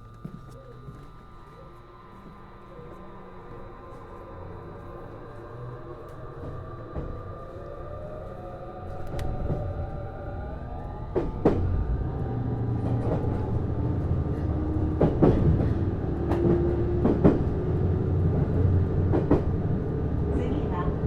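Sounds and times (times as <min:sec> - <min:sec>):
low train rumble: 0:00.0 - 0:21.0
train motor whine: 0:00.0 - 0:21.0.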